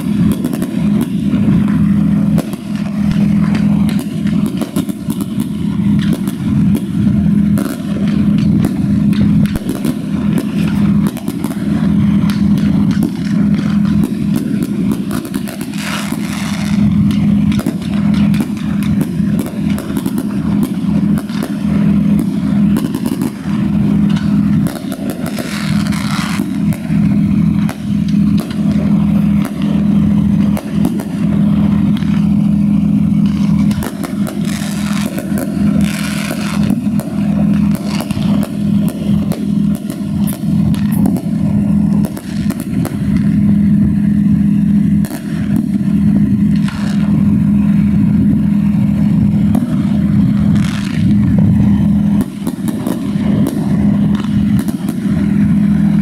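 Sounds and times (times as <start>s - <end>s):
fireworks bangs and crackles: 0.0s - 56.0s
low drone: 0.0s - 56.0s.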